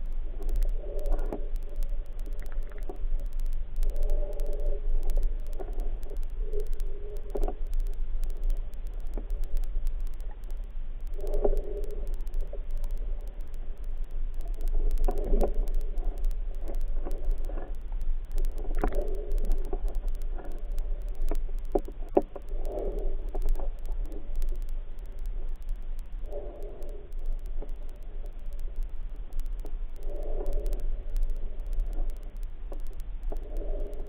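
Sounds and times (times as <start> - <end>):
muffled underwater rumble: 0.0 - 34.0
sharp clicks: 0.0 - 34.0.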